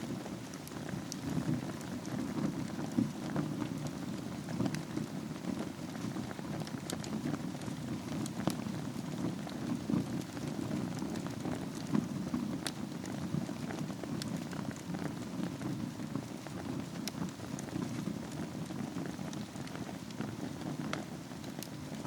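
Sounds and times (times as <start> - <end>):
low rumble of fire flames: 0.0 - 22.0
wood fire crackles and pops: 0.0 - 22.0.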